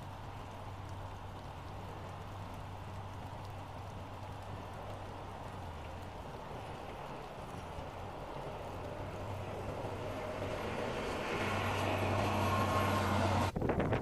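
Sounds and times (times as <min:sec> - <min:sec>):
vehicle engine hum: 0:00.0 - 0:13.8
tyre and road noise: 0:00.0 - 0:14.0
wind buffeting microphone: 0:00.0 - 0:14.0.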